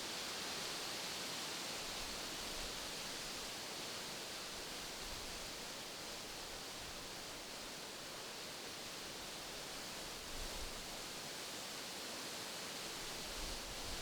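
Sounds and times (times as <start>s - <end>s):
wind rustling through leaves: 0.0s - 14.0s.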